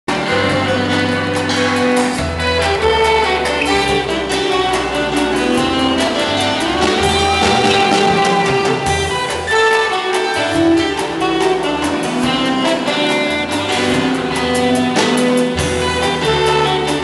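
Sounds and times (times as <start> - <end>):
live instrumental music: 0.1 - 17.0.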